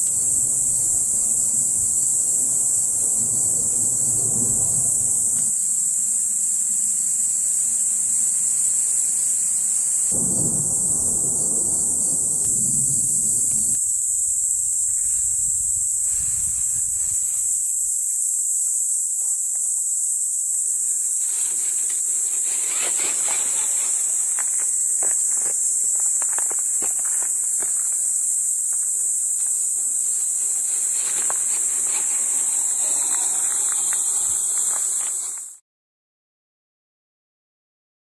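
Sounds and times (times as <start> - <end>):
insect chorus drone: 0.0 - 35.6.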